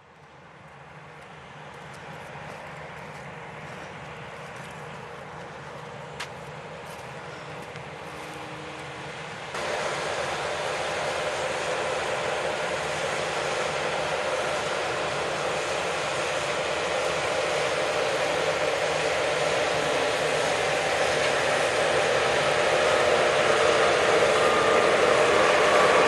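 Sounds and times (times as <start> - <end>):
combine harvester droning: 2.5 - 26.0.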